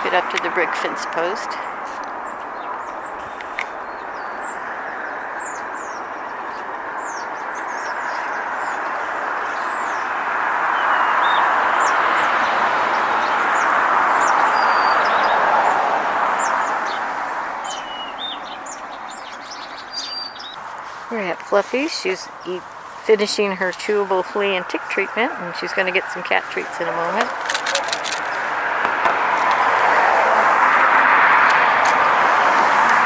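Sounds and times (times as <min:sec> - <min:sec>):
small birds chirping: 0:00.0 - 0:30.0
road traffic noise: 0:00.0 - 0:33.0
vehicle passing: 0:00.0 - 0:33.0.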